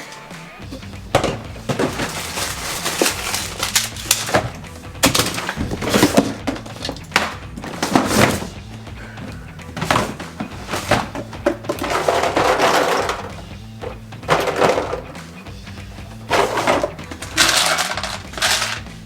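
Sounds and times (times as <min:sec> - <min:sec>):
faint background music: 0:00.0 - 0:19.0
plastic bottles knocking and rustling: 0:00.0 - 0:19.0.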